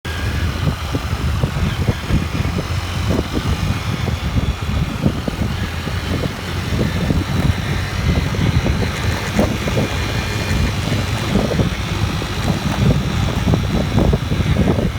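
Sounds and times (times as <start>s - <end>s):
motorbike engine rumble: 0.0s - 14.9s
wind buffeting microphone: 0.1s - 14.9s.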